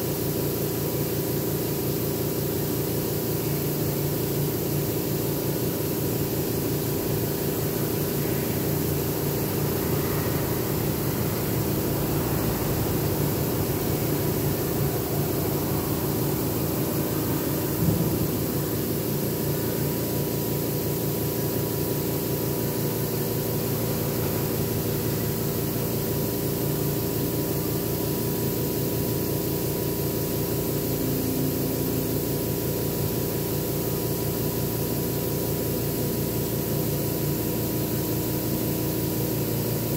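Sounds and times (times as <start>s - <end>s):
air compressor humming: 0.0s - 39.9s
air hiss: 2.7s - 35.8s.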